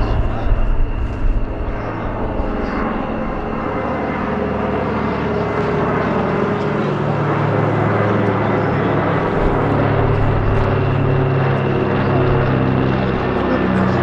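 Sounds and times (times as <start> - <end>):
propeller plane engines droning: 0.0 - 14.0.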